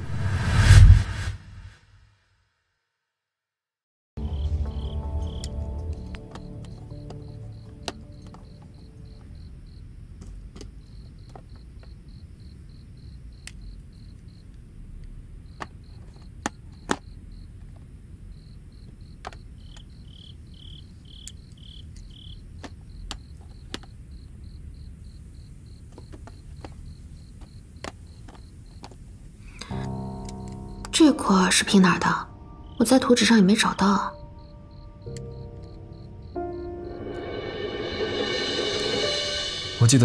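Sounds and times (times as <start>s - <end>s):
crickets chirping: 4.2s - 40.0s
lower cricket chirping: 4.2s - 40.0s.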